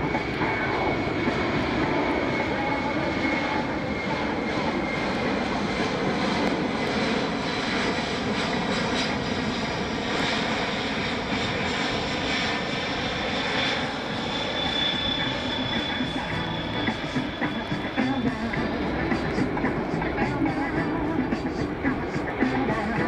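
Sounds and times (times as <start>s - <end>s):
jet engine noise with high whine: 0.0s - 23.0s.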